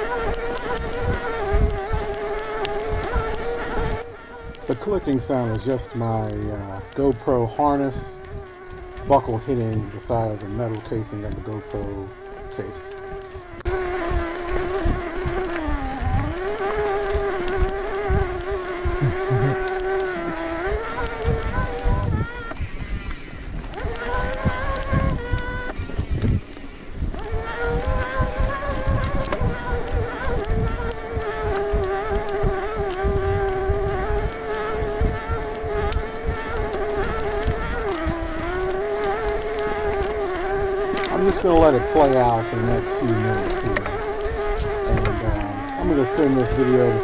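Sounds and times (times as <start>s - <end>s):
electric bike motor whining: 0.0s - 47.0s
low thumps from rough trail: 0.0s - 47.0s.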